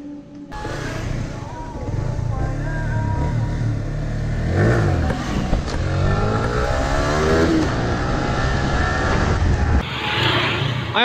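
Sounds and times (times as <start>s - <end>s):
motorcycle engine accelerating: 0.5s - 10.9s.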